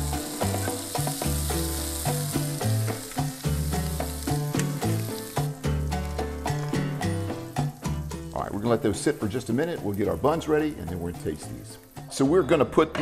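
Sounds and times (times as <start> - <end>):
patties sizzling in a skillet: 0.0 - 12.2
background music with bass: 0.0 - 13.0.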